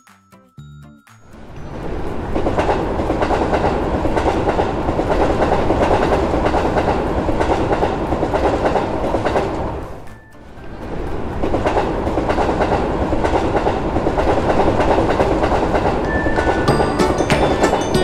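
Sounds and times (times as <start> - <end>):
train wheels rumbling over rail joints: 1.6 - 18.0.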